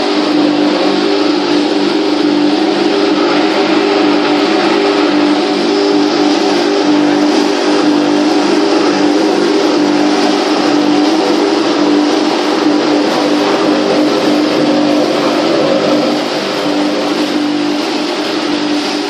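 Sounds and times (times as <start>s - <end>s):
hammer mill running: 0.0s - 19.0s.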